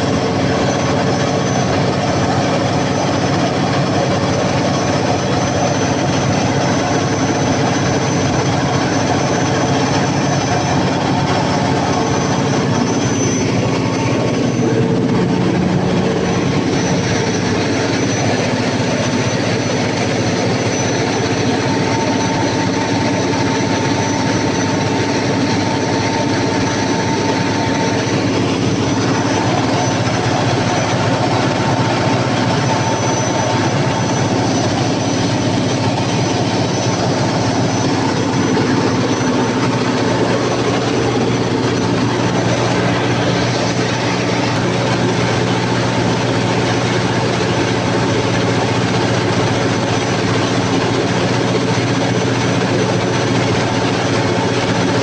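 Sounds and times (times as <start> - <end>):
diesel generator running loudly: 0.0 - 55.0.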